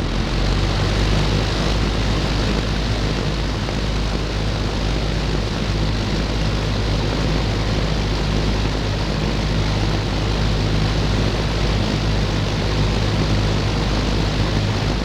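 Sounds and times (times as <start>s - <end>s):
box fan running: 0.0s - 15.0s.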